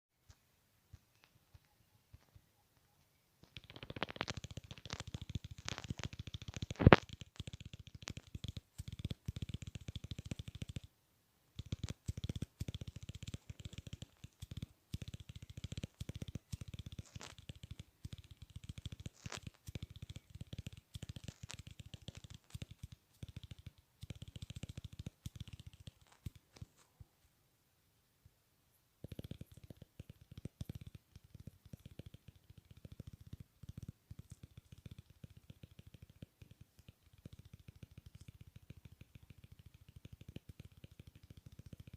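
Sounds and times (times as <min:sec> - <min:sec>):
rapid clicking: 0:03.4 - 0:10.9, 0:11.5 - 0:26.9, 0:29.0 - 0:41.9.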